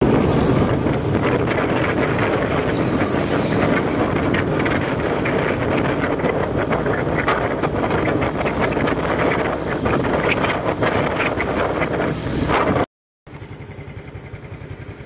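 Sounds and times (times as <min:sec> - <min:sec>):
wind rushing over microphone: 0:00.0 - 0:12.9
motorcycle engine running: 0:00.0 - 0:15.0
tyres on road: 0:00.0 - 0:15.0.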